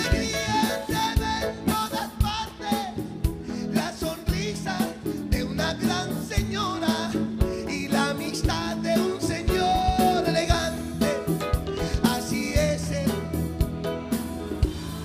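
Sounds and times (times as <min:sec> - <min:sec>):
man singing with band: 0:00.0 - 0:13.9
steady drum beat: 0:00.0 - 0:15.0.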